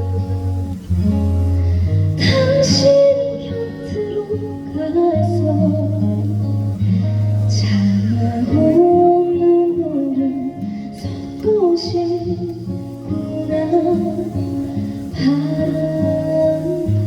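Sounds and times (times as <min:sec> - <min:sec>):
backing track with guitar: 0:00.0 - 0:17.0
woman singing: 0:01.8 - 0:17.0.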